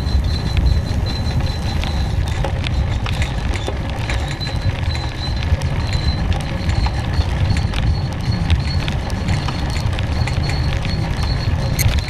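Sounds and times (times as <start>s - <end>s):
road rumble: 0.0s - 12.0s
small rattling clicks: 0.0s - 12.0s
wind: 0.0s - 12.0s.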